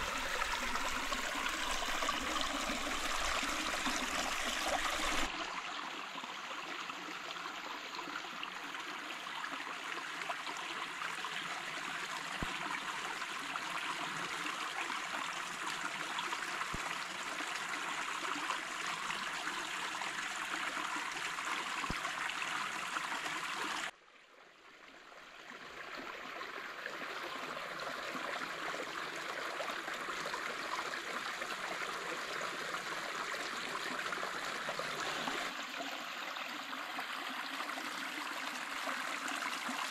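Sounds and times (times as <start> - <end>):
stream trickling over stones: 0.0 - 23.9, 24.6 - 39.9.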